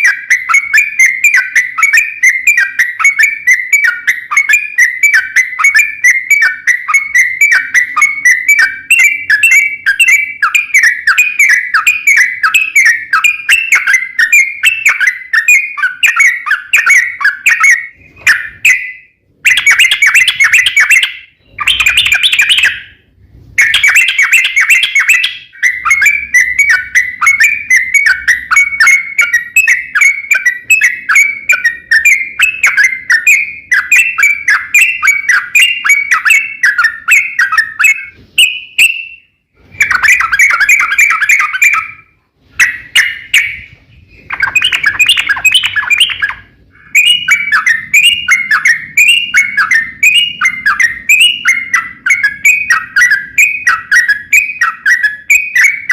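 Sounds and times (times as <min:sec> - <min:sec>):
bird singing chattering notes: 0:00.0 - 0:23.0, 0:23.6 - 0:55.9.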